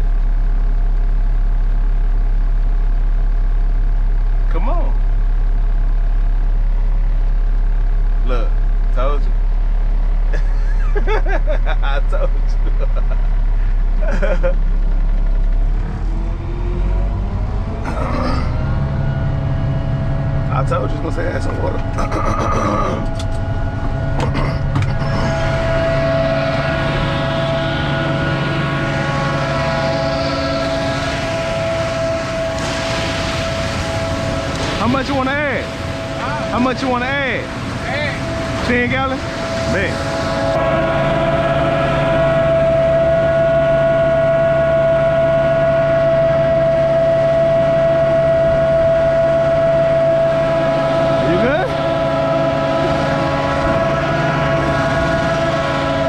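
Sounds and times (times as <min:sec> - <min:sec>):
concrete mixer truck running: 0:00.0 - 0:56.0
diesel engine high revs: 0:00.0 - 0:56.0
high steady whine: 0:00.0 - 0:56.0.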